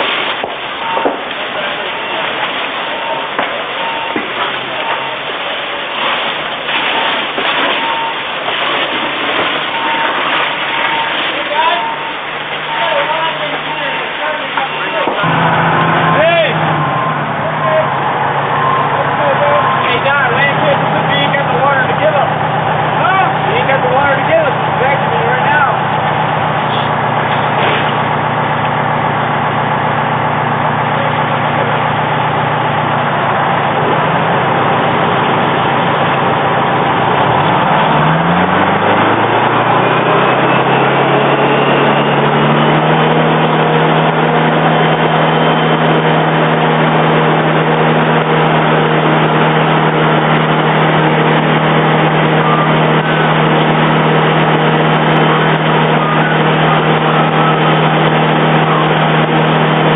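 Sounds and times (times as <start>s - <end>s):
constant background roar: 0.0s - 59.9s
fire engine running: 0.0s - 59.9s.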